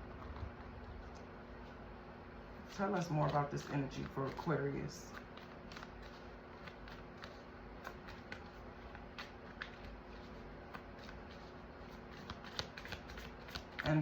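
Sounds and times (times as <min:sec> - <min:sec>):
low steady hum: 0:00.0 - 0:14.0
cards being shuffled: 0:02.6 - 0:14.0.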